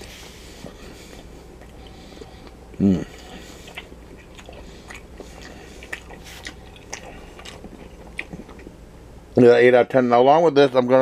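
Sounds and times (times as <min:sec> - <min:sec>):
person chewing with wet smacks: 0:00.0 - 0:08.8.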